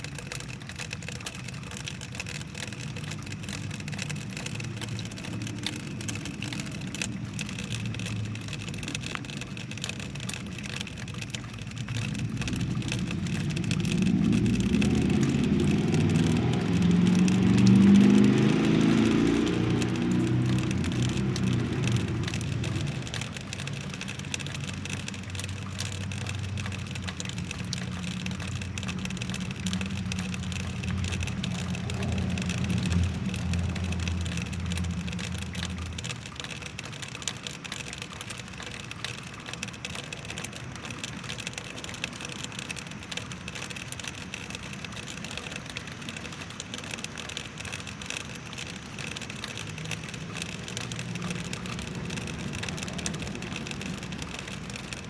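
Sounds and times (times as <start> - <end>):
rain dripping off a roof: 0.0 - 55.0.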